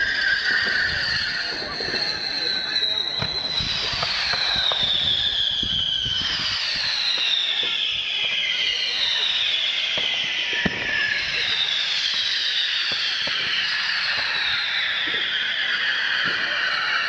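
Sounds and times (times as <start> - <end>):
firework bangs and cracks: 0.0 - 17.0
whistling fireworks: 0.0 - 17.0.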